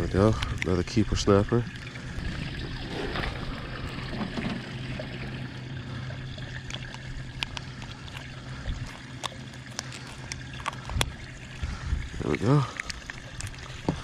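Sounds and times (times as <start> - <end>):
water trickling and lapping: 0.0 - 14.0.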